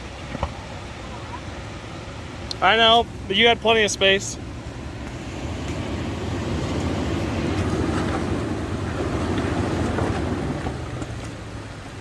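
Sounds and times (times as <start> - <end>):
suv engine and tyre rumble: 0.0 - 12.0.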